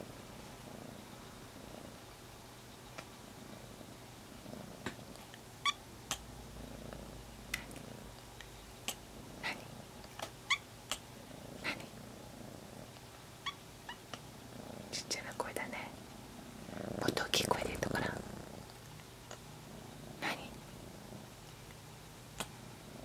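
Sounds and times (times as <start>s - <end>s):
soft purring: 0.0s - 23.0s.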